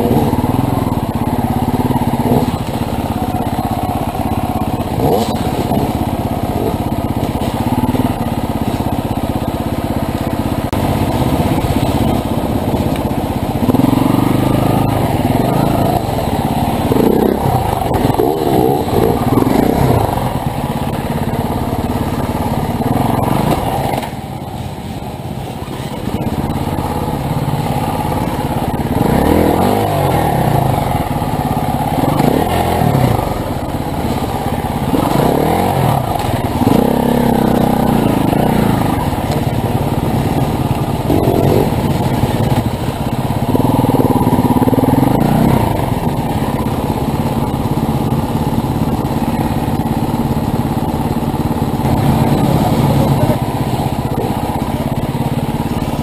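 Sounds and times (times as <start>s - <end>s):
motorcycle engines running: 0.0s - 56.0s.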